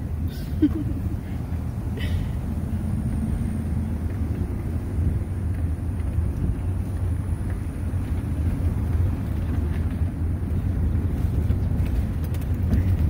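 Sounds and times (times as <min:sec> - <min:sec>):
vehicle engine and tyres rumbling: 0:00.0 - 0:13.0
wind buffeting microphone: 0:02.5 - 0:13.0.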